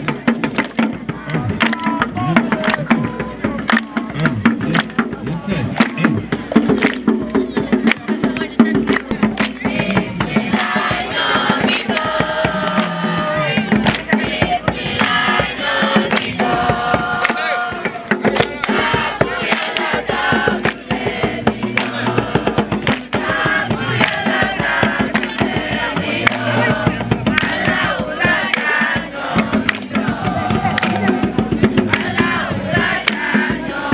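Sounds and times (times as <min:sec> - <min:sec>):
sharp percussive strikes: 0:00.0 - 0:33.9
young voices singing a chant: 0:00.8 - 0:33.9.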